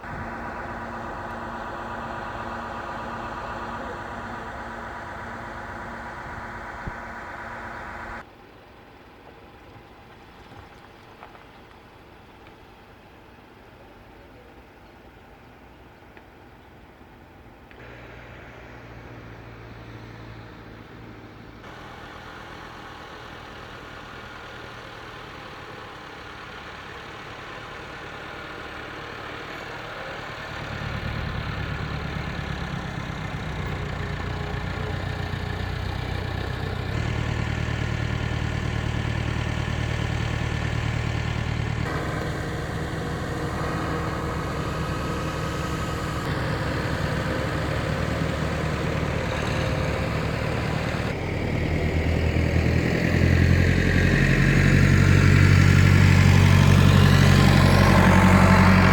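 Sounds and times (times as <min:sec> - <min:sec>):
heavy machinery engine running: 0:00.0 - 0:08.3, 0:17.7 - 0:58.9.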